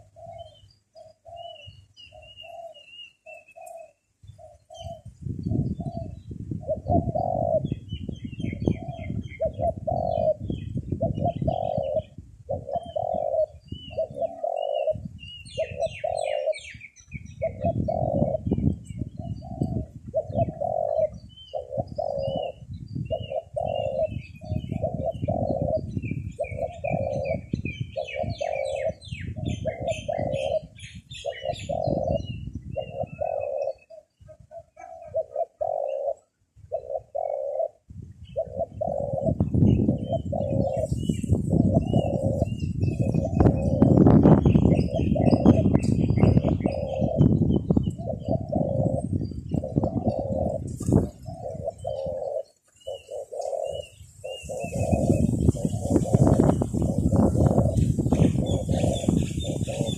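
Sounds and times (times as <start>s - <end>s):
wind rumbling on microphone: 0.0s - 2.8s, 3.6s - 59.9s
dove cooing: 0.0s - 59.9s
small birds chirping: 0.0s - 59.9s.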